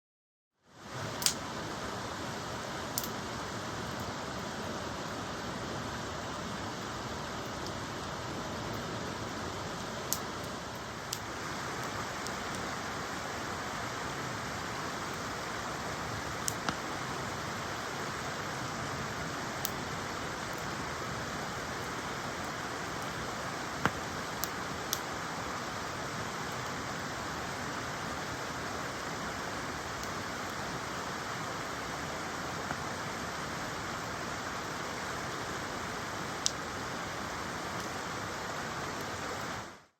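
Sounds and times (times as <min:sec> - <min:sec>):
campfire crackling: 0:00.7 - 0:39.9.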